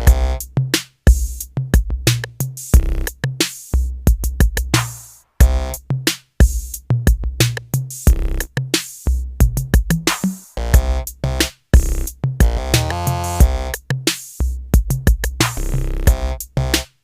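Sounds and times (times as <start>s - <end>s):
electronic music with drum machine: 0.0s - 17.0s.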